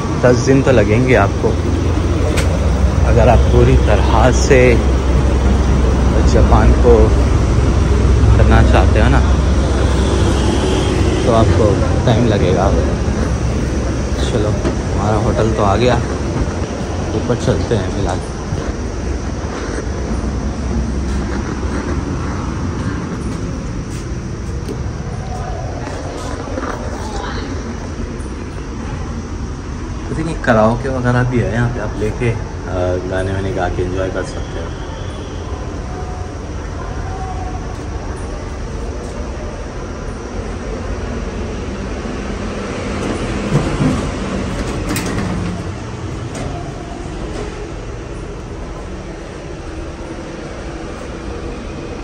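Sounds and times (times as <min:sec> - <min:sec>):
low rumbling background noise: 0:00.0 - 0:52.0.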